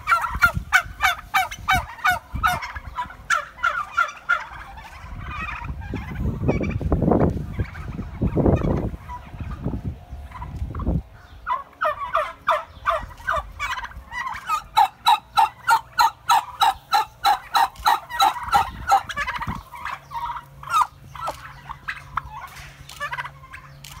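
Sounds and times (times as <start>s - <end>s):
turkeys gobbling: 0.0s - 24.0s.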